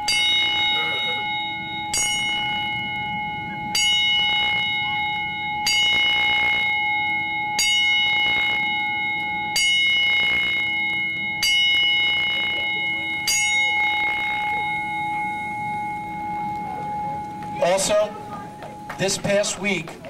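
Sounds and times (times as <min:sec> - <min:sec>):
ring bell strikes: 0:00.0 - 0:20.0.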